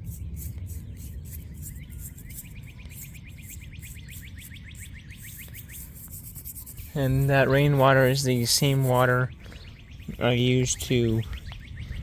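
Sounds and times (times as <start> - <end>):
fast trill of chirps: 0.1 - 11.8.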